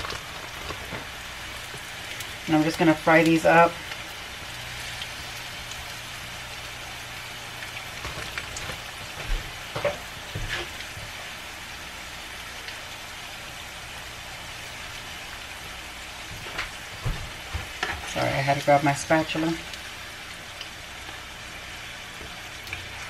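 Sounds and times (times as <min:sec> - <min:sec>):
oil sizzling on a griddle: 0:00.0 - 0:23.0.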